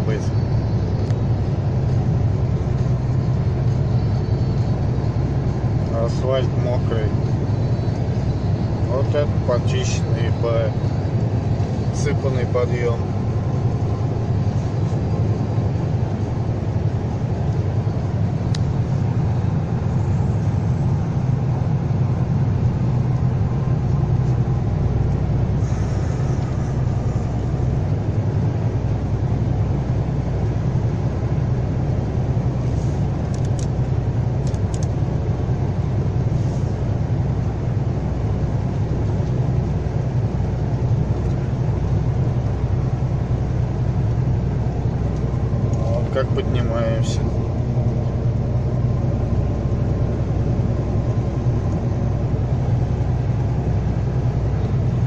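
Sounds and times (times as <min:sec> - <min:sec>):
truck engine droning: 0:00.0 - 0:55.0
tyre and road noise: 0:00.0 - 0:55.0.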